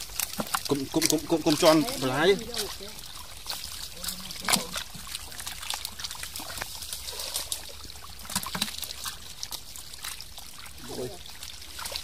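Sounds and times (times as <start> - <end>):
splashes in muddy water: 0.0 - 12.0.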